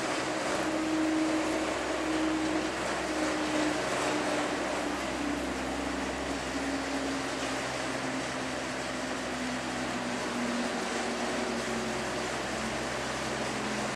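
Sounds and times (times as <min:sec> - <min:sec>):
gondola lift machinery humming: 0:00.0 - 0:13.9.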